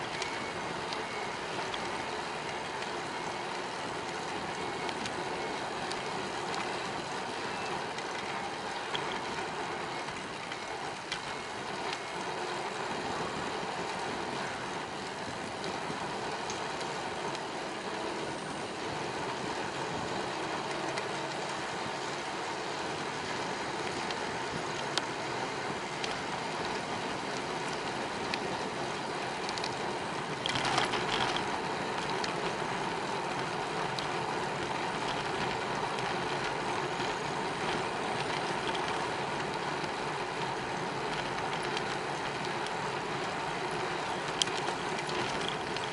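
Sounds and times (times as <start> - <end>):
bicycle tyres rolling on path: 0.0 - 45.9.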